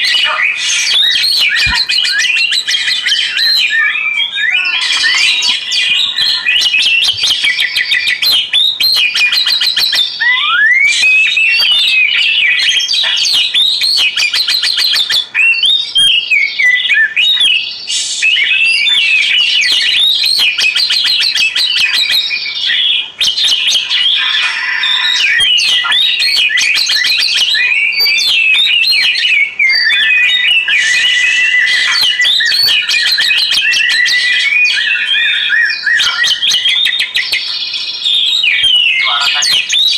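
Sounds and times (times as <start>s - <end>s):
bird singing trills and whistles: 0.0s - 39.9s
long held bird whistle: 0.0s - 39.9s.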